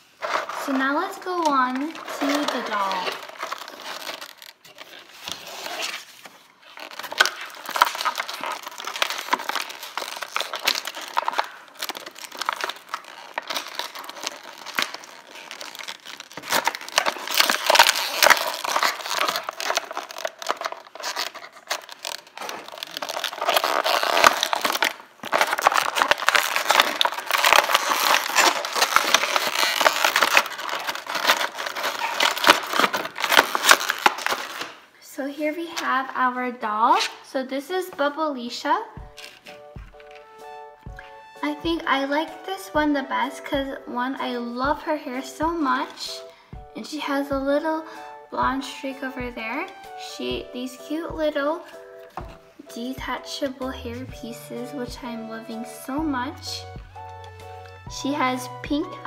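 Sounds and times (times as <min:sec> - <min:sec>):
plastic packaging crackling: 0:00.0 - 0:35.0, 0:39.0 - 0:59.0.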